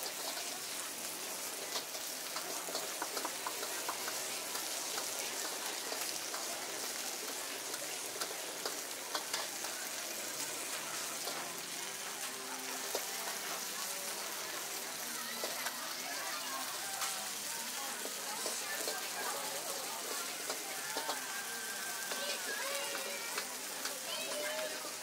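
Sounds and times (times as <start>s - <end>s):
food sizzling on hot iron plate: 0.0s - 25.0s.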